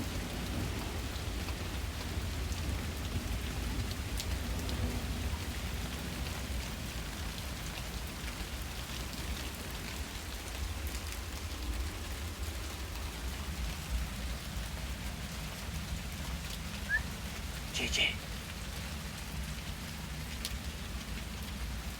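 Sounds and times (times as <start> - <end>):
rain drops ticking on surfaces: 0.0 - 21.9
rain hiss: 0.0 - 21.9.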